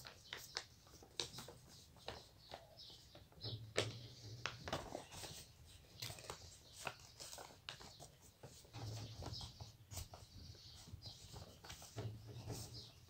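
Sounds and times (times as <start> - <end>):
paper rustling and creasing: 0.0 - 13.0.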